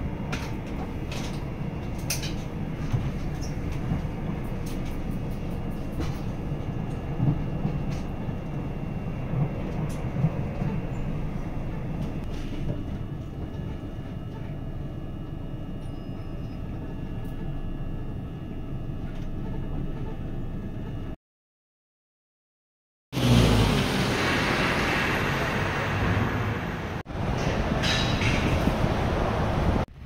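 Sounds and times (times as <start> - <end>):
train rumbling inside carriage: 0.0 - 21.2, 23.2 - 30.0.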